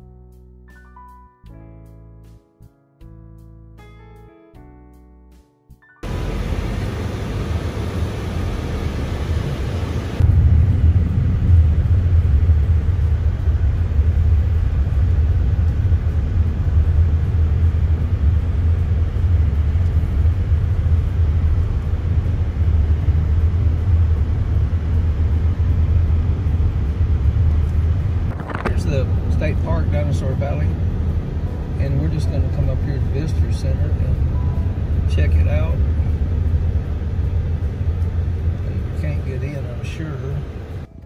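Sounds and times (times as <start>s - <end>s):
car road and engine rumble: 6.0s - 41.0s.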